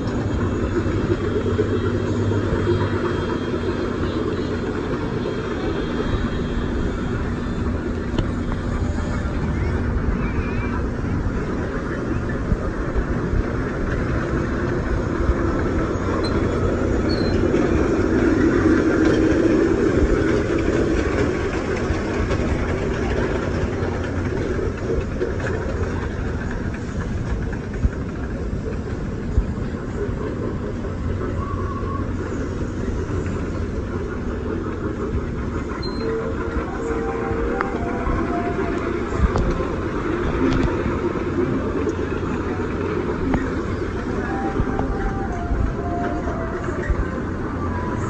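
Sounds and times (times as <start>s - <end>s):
ride train rumbling: 0.0s - 48.0s.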